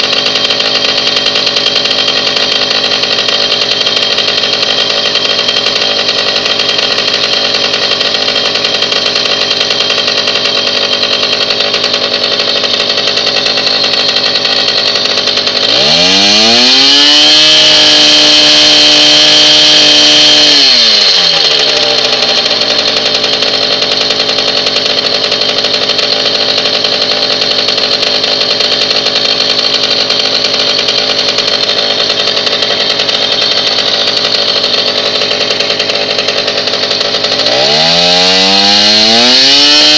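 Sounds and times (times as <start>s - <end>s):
moped engine revving: 0.0s - 39.9s.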